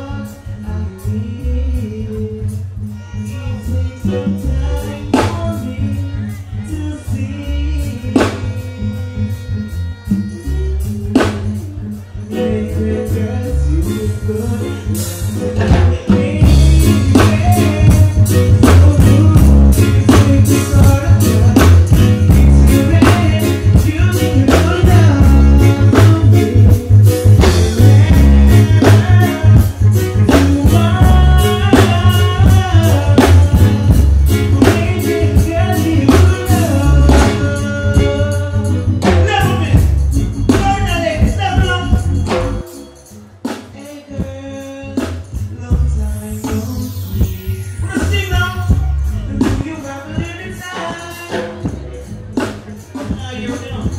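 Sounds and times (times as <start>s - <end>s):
loud live rock music: 0.0s - 53.9s
man singing: 0.0s - 53.9s.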